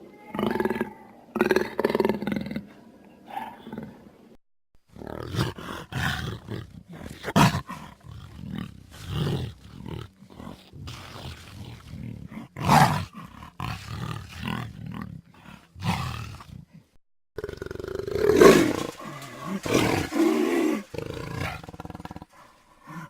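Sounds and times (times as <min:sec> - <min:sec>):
dinosaur growls and roars: 0:00.3 - 0:04.0, 0:04.9 - 0:16.8, 0:17.4 - 0:23.0.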